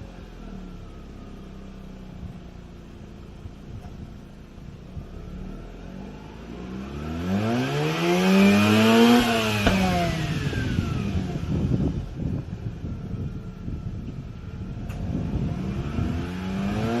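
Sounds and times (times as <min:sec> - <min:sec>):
rotary engine idling and revving: 0:00.0 - 0:17.0.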